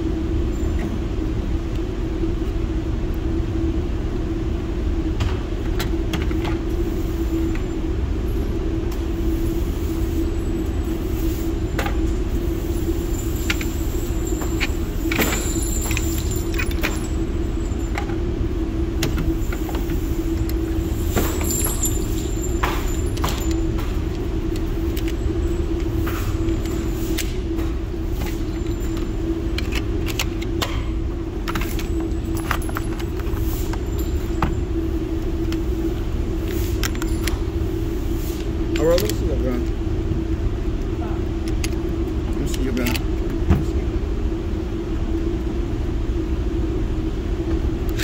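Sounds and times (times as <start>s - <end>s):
ventilation rumble and hum: 0.0s - 48.0s.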